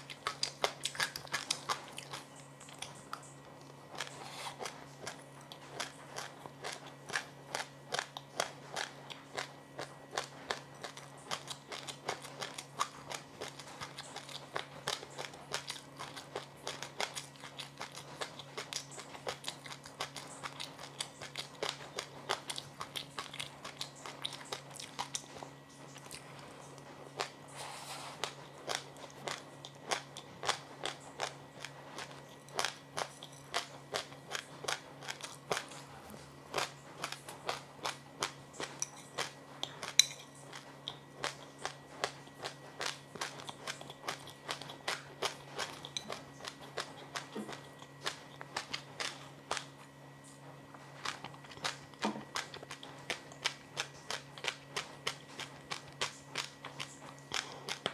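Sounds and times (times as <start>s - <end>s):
crunchy food being chewed: 0.0s - 57.9s
low steady hum: 0.0s - 57.9s.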